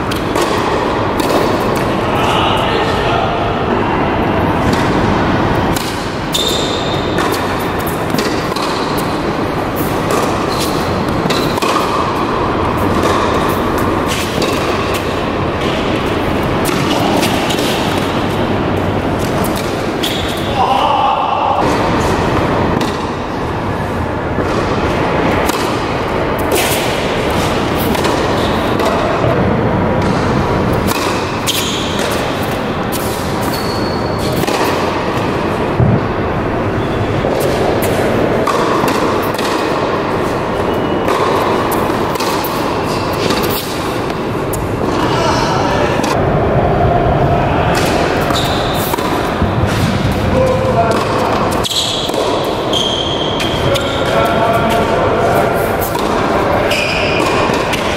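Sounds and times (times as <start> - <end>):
ball bouncing on hard court: 0.0 - 2.3, 4.6 - 18.4, 21.5 - 23.2, 24.4 - 36.1, 36.8 - 45.2, 47.7 - 54.9, 55.8 - 57.9
tennis ball hit by rackets: 0.0 - 2.3, 4.5 - 18.6, 19.2 - 20.5, 21.5 - 23.4, 24.4 - 36.1, 37.2 - 45.1, 47.7 - 57.9
loud rushing background noise: 0.0 - 57.9
steady background noise: 0.0 - 57.9.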